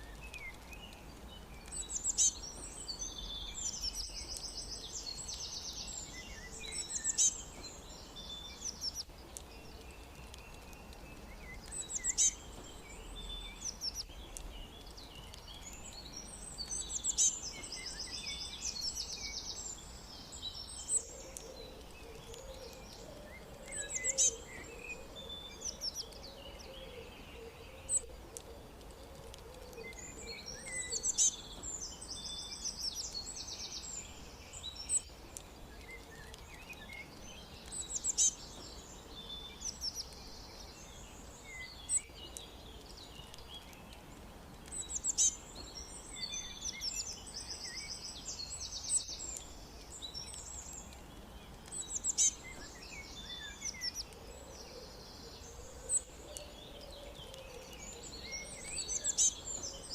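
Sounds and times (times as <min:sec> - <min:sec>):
songbird song phrase: 0:00.0 - 0:59.9
steady background hiss: 0:00.0 - 0:59.9.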